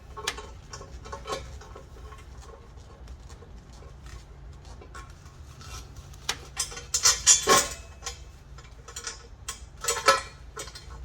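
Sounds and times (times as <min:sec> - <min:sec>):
metal manifold clinking and scraping: 0:00.0 - 0:03.0, 0:04.7 - 0:11.0
metal clatter: 0:00.0 - 0:04.1, 0:04.7 - 0:11.0.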